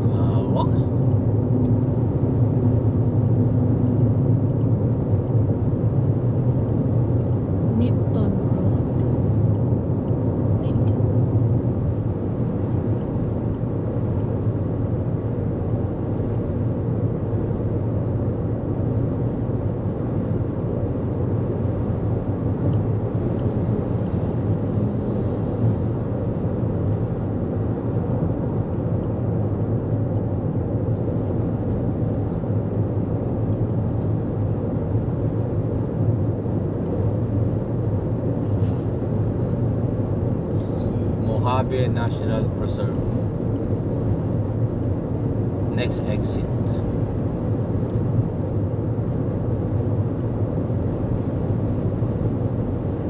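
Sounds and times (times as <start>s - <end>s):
car interior road noise: 0.0s - 53.0s.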